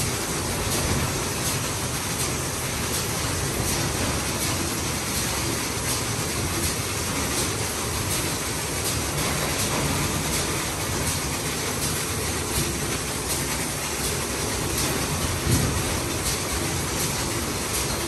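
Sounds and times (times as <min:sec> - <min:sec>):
car wash machine hiss and rumble: 0:00.0 - 0:18.0.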